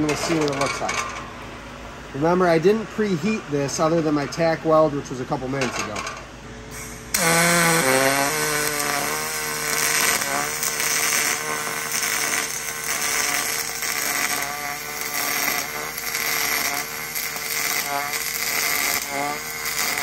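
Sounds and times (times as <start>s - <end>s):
arc welding buzz and hiss: 0.0s - 4.2s, 4.8s - 20.0s.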